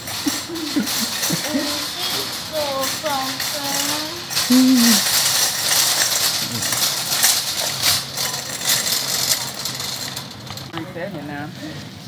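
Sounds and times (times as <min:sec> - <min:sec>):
shopping cart rattling: 0:00.0 - 0:11.5.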